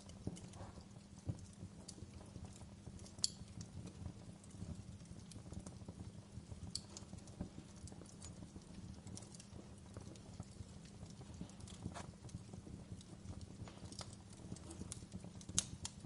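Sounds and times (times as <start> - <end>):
wood fire crackling in fireplace: 0.0 - 16.0.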